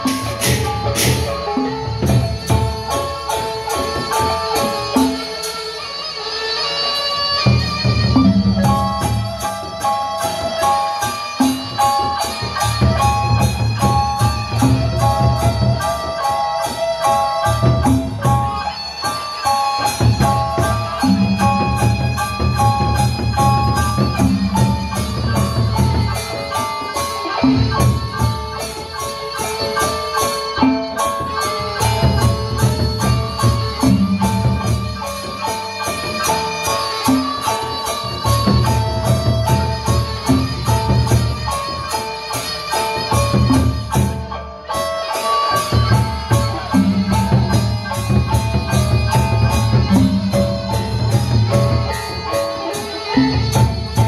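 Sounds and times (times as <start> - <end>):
cymbal clashes: 0.0 - 54.0
pitched melody notes: 0.0 - 54.0.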